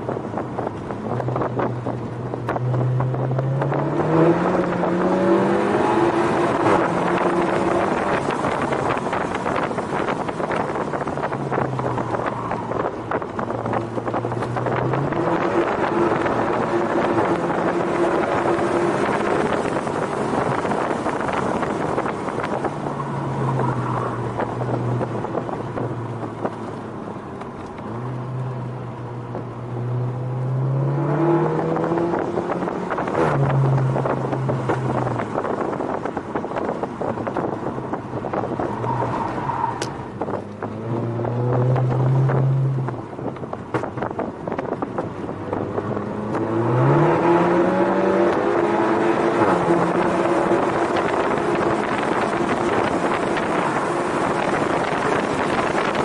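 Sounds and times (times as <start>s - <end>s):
car engine accelerating: 0.0s - 56.0s
wind and road noise: 0.0s - 56.0s.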